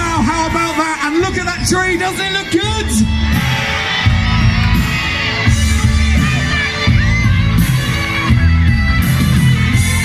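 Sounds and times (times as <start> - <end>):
loud music with heavy bass beat: 0.0 - 10.0.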